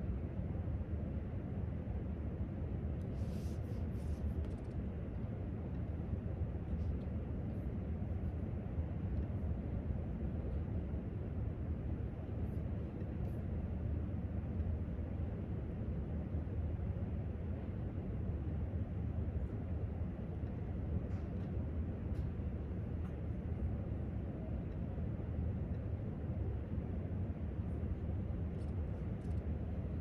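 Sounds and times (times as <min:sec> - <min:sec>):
low room rumble: 0:00.0 - 0:30.0.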